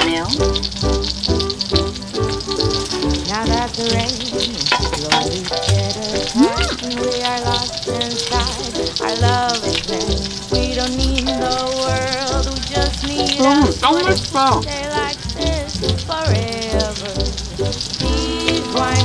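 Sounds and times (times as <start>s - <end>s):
background music with held notes: 0.0s - 19.0s
meat sizzling in a frying pan: 0.0s - 19.0s.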